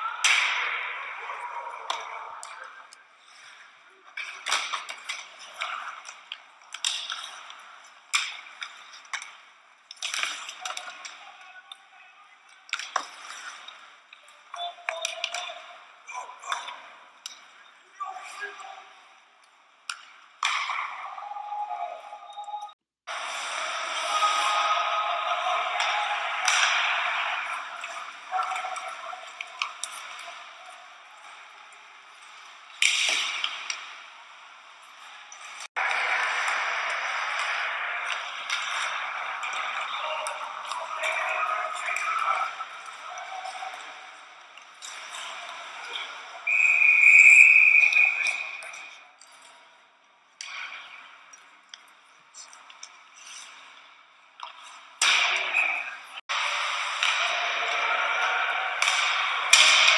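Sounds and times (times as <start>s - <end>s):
hockey sticks and puck clacking: 0.0s - 49.8s, 50.4s - 59.9s
rink and crowd noise: 0.0s - 59.9s
skates scraping ice: 0.2s - 11.2s, 12.7s - 14.2s, 23.1s - 49.6s, 50.4s - 59.9s.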